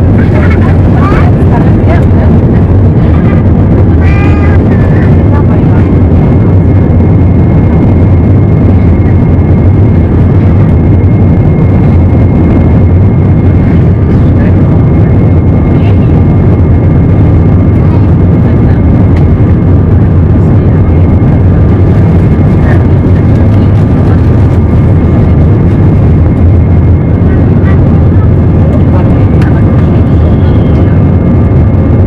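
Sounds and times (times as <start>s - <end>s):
jet engine rumble in cabin: 0.0s - 32.0s.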